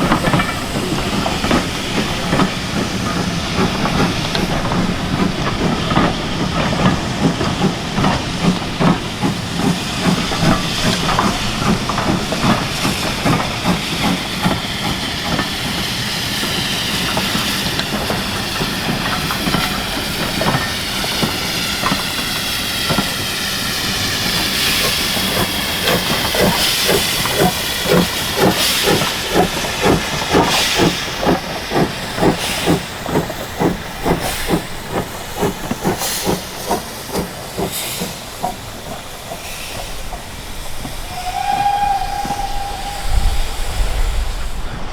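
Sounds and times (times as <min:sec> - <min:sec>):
steam hissing: 0:00.0 - 0:44.9
steam locomotive exhaust beats: 0:00.0 - 0:44.9.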